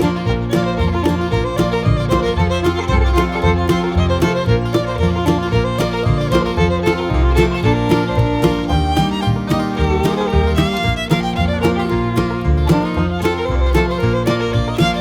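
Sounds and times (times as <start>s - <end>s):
string instrument music with beat: 0.0s - 15.0s.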